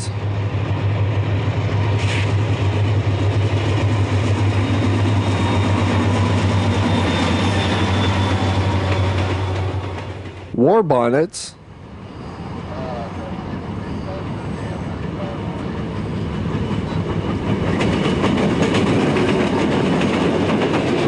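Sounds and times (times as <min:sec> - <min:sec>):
train rumbling on rails: 0:00.0 - 0:10.6, 0:11.6 - 0:21.0
locomotive engine drone: 0:00.0 - 0:21.0.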